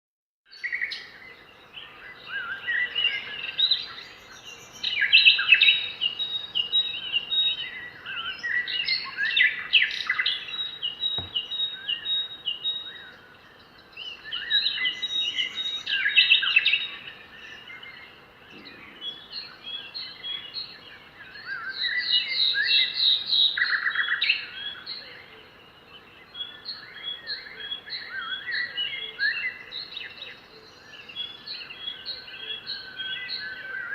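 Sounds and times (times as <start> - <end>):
wild birds singing: 0.5 - 33.9.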